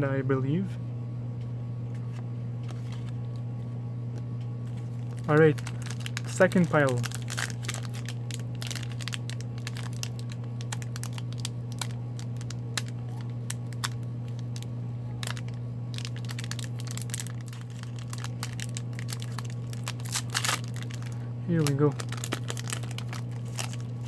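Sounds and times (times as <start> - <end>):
steady low hum: 0.0 - 24.0
cards clicking and rustling: 2.0 - 3.4, 4.7 - 14.6, 15.2 - 24.0.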